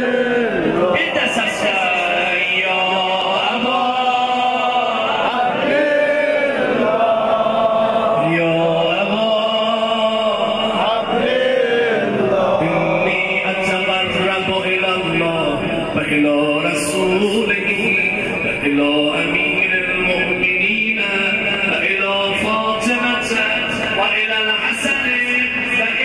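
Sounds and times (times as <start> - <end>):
man chanting a lament: 0.0 - 26.0.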